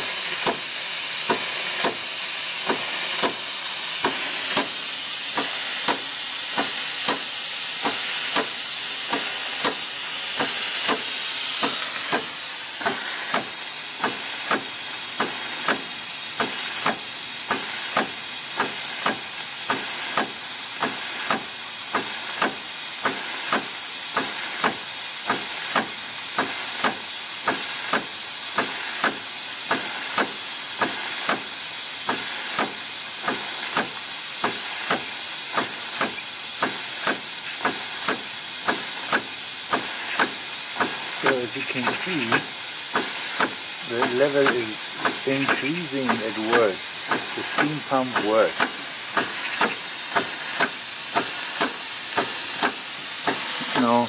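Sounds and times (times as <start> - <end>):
steam feed pump clacking: 0.0 - 54.0
steam hissing: 0.0 - 54.0.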